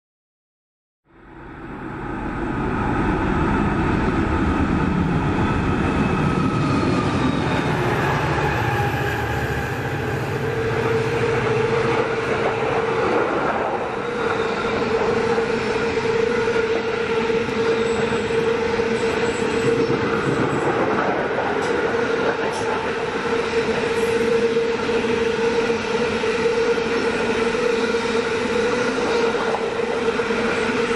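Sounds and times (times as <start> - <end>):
train wheels rumbling on tracks: 1.4 - 30.9.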